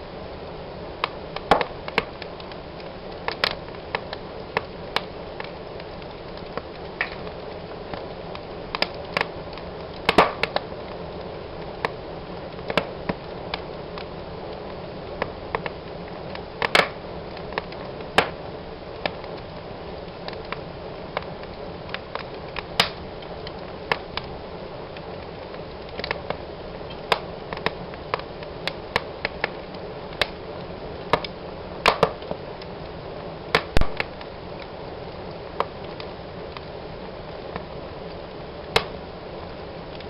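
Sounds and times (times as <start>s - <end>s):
fire crackling and popping: 0.0s - 40.0s
flames rushing: 0.1s - 40.0s.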